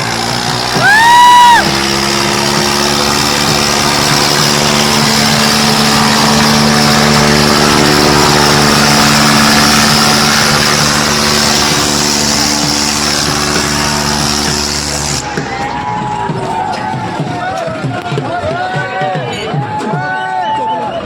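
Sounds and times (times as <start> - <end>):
tractor diesel engine running: 0.0 - 18.7.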